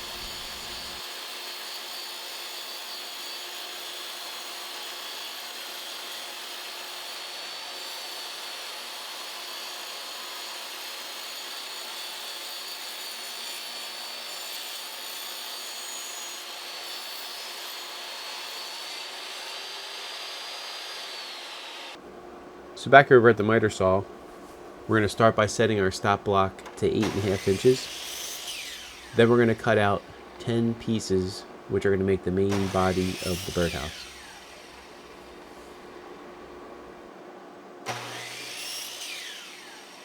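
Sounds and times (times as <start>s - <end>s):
table saw whining: 0.0s - 22.0s, 26.6s - 31.3s, 32.5s - 37.0s, 37.8s - 40.0s.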